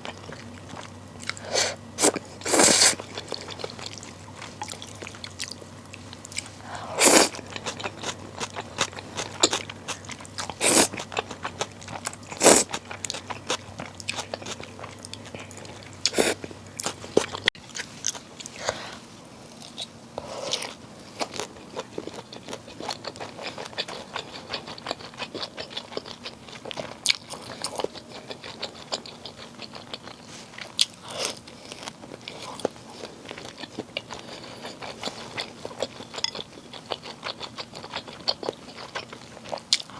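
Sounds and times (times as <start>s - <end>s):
person chewing noodles: 0.0s - 18.9s, 19.6s - 39.9s.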